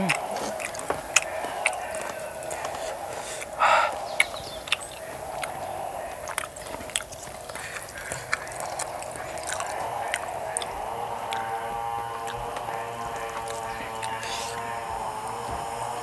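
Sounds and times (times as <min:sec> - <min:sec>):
fingers clicking on enamel plate: 0:00.0 - 0:15.9
wet chewing and mouth smacks: 0:00.0 - 0:16.0.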